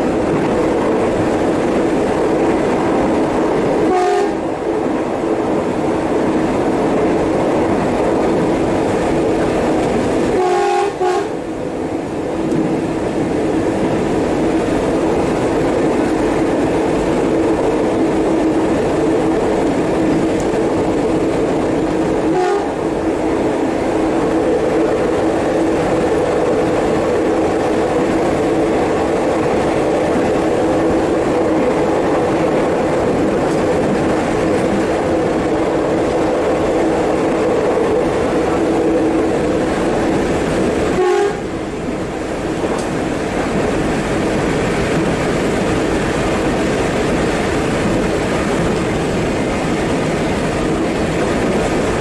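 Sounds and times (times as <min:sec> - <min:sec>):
electric train two-tone hum: 0:00.0 - 0:52.0
train rushing noise: 0:00.0 - 0:52.0.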